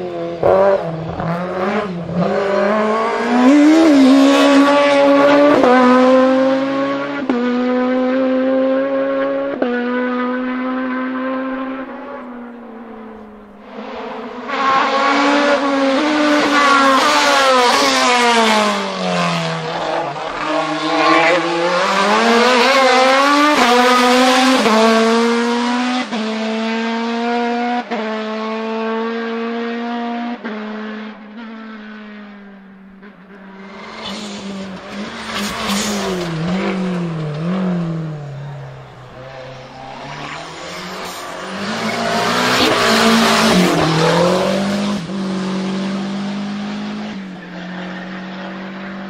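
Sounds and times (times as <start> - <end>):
race car engine at hard throttle: 0.0 - 49.0.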